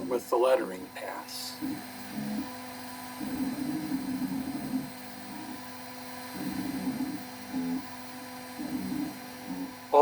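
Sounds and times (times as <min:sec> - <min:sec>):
bit engraving wood: 0:00.0 - 0:10.0
router spindle humming: 0:00.0 - 0:10.0.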